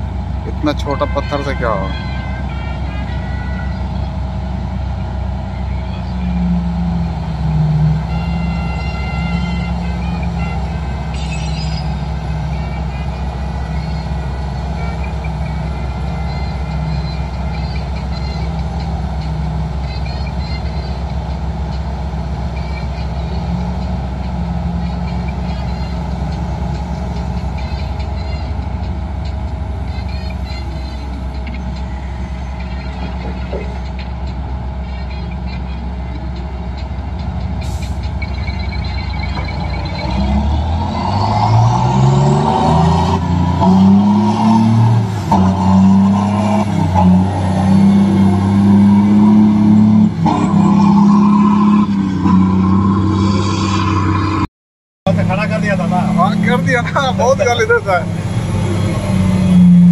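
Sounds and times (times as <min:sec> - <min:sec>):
diesel engine drone: 0:00.0 - 0:54.5, 0:55.1 - 0:59.9.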